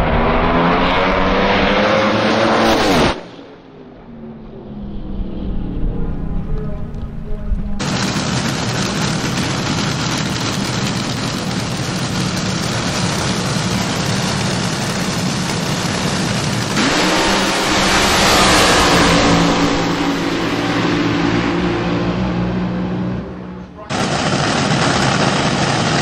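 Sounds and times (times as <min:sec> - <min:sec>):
dragster engines roaring: 0:00.0 - 0:26.0.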